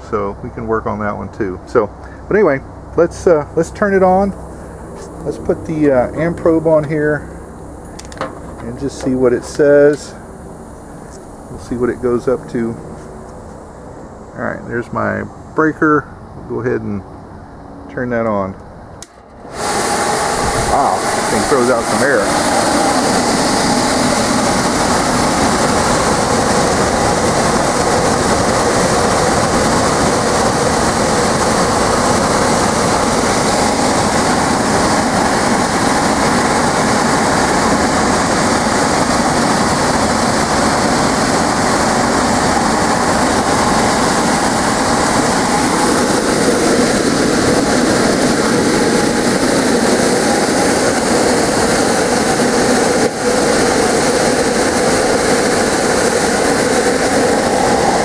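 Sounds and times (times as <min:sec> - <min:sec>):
blower fan rushing air: 0:00.0 - 0:58.0.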